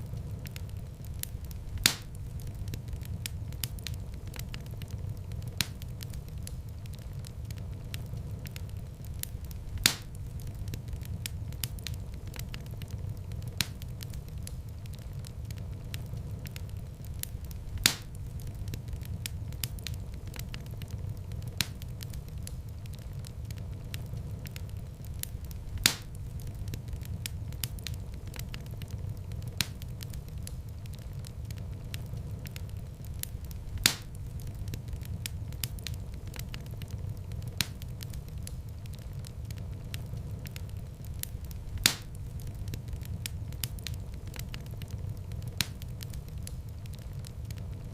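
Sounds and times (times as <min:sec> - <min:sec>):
sharp pops of fire: 0:00.0 - 0:47.9
wood fire crackling: 0:00.0 - 0:47.9.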